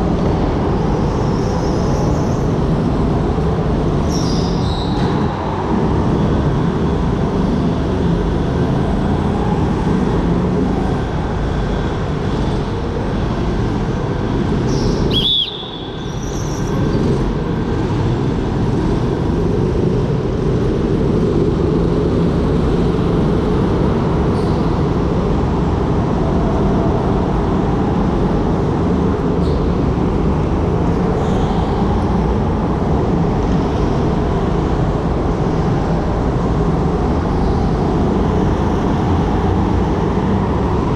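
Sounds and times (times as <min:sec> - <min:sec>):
go-kart motor and wind rush: 0:00.0 - 0:40.9.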